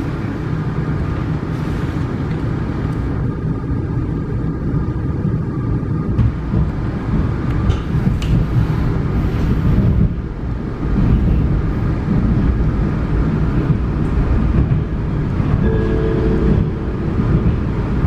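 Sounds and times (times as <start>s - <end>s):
multi-tone train whine: 0.0s - 18.0s
train wheels rumbling on rails: 0.0s - 18.0s.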